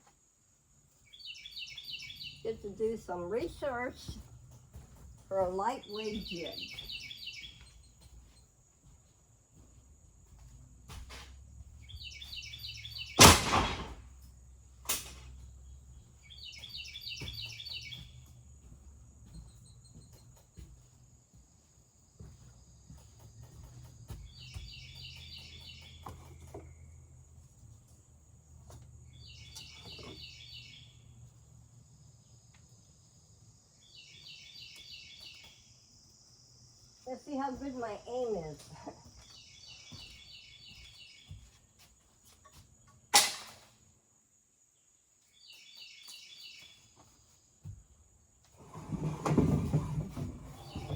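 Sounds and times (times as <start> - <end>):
songbird chirping: 0.0 - 50.9.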